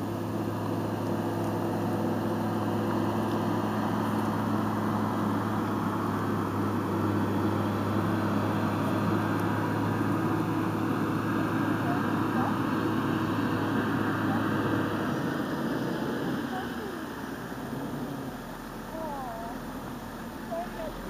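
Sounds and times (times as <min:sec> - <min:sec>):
constant hiss: 0:00.0 - 0:21.0
engine idling hum: 0:00.0 - 0:21.0.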